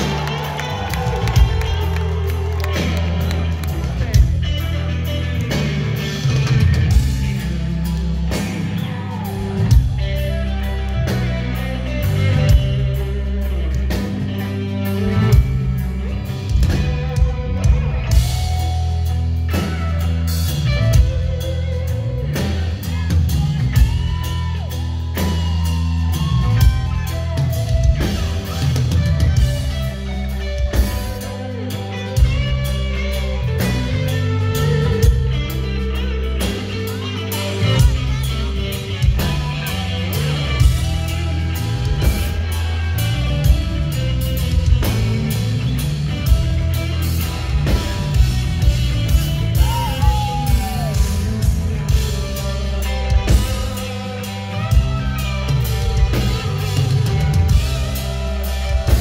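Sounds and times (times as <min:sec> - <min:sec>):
bass: 0:00.0 - 0:59.0
distorted electric guitar lead: 0:00.0 - 0:59.0
drum kit: 0:00.0 - 0:59.0.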